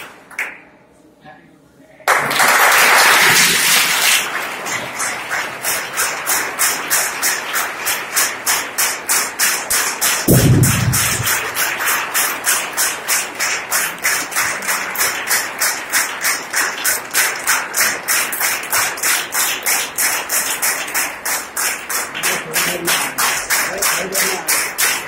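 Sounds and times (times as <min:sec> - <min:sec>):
people clapping in rhythm: 0:00.0 - 0:00.6, 0:02.0 - 0:25.0.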